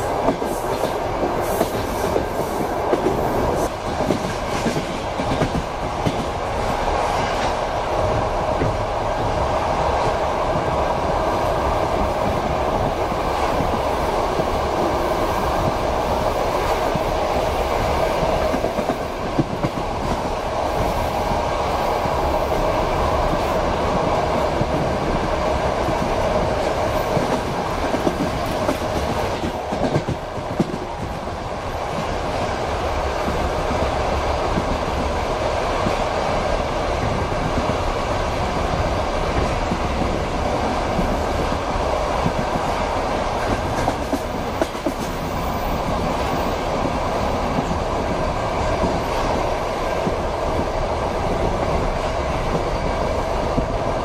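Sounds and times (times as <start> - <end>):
clickety-clack of rail joints: 0.0 - 54.0
train wheels rumbling on rails: 0.0 - 54.0.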